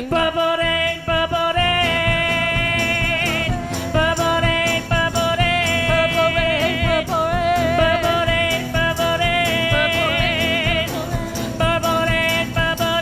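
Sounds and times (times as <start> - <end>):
acoustic guitar: 0.0 - 13.0
jingling percussion beat: 0.0 - 13.0
women singing wordless notes: 0.0 - 13.0.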